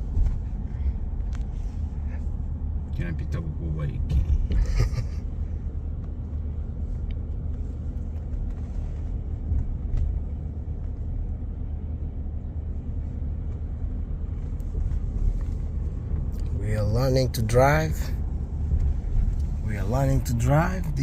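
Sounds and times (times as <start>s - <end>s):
road noise: 0.0s - 21.0s
truck engine rumble: 0.0s - 21.0s.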